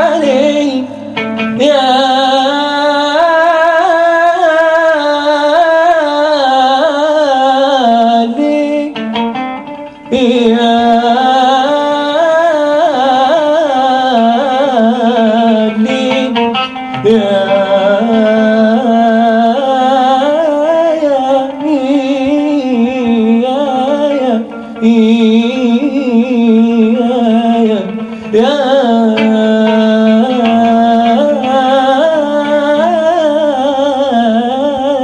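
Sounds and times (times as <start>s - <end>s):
man singing into a microphone: 0.0s - 35.0s.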